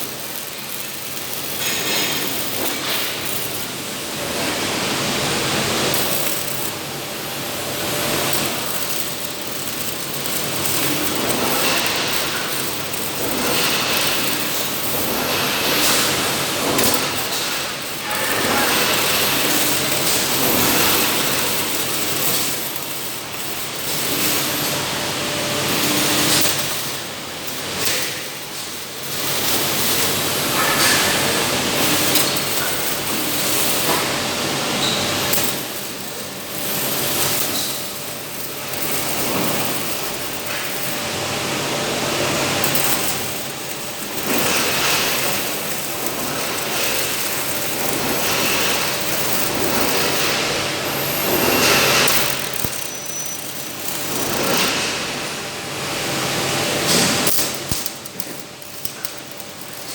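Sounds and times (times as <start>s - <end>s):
faint machine hum: 0.0s - 59.9s
welding hissing and crackling: 0.0s - 59.9s.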